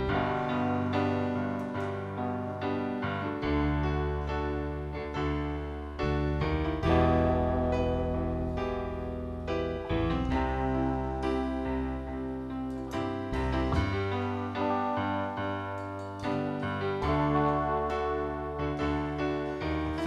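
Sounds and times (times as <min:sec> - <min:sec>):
deep bass notes: 0:00.0 - 0:20.0
electric keyboard chords: 0:00.0 - 0:20.0.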